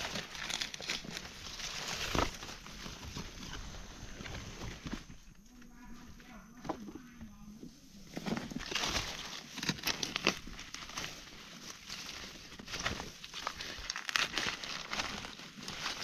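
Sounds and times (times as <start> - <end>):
dry leaves rustling and crunching: 0.0 - 5.0, 8.0 - 16.0.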